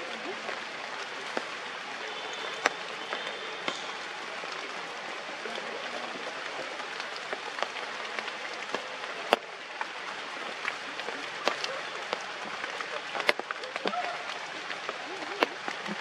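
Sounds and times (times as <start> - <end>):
rain on leaves: 0.0 - 16.0.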